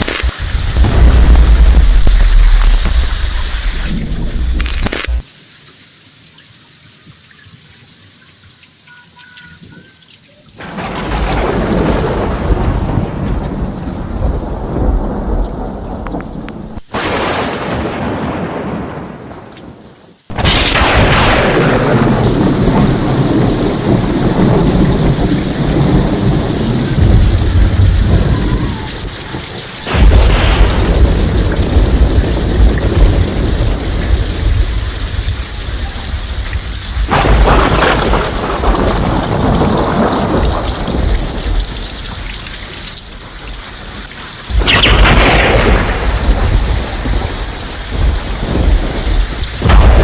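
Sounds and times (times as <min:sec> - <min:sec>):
thunderclaps rumbling: 0:00.0 - 0:05.2, 0:10.6 - 0:50.0
steady rain hiss: 0:00.0 - 0:50.0.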